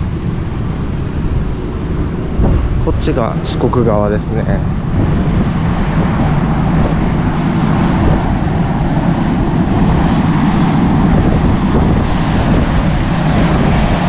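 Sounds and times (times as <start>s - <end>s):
ship engine and ventilation roar: 0.0s - 14.0s
wind across deck: 0.0s - 14.0s.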